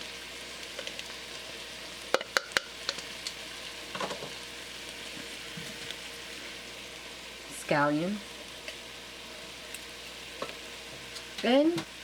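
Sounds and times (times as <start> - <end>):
peppers sizzling in a pan: 0.0 - 12.0.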